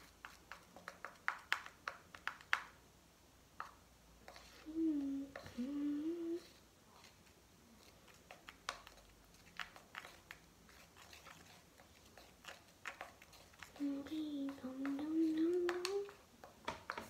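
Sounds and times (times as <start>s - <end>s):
spoon stirring sticky slime: 0.0s - 2.8s, 3.5s - 17.0s.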